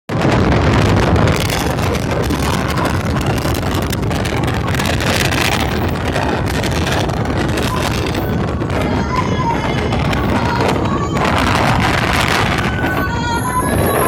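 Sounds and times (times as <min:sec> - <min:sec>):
wind buffeting microphone: 0:00.1 - 0:14.0
floodwater rushing: 0:00.2 - 0:14.0.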